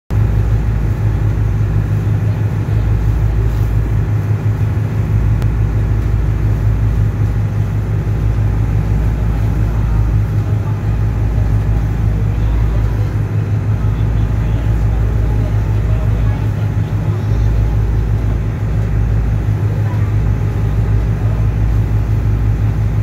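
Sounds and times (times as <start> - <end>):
ferry engines droning: 0.1 - 23.0.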